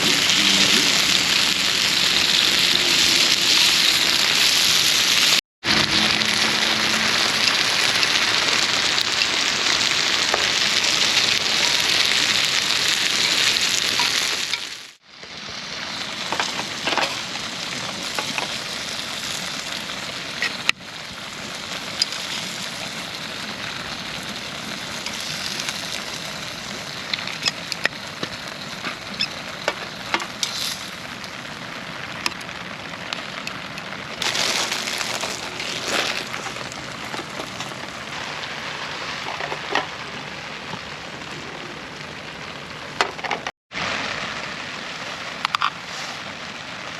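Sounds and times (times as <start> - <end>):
food sizzling in a pan: 0.0 - 42.0, 43.8 - 46.6
wood fire crackling: 0.0 - 46.9.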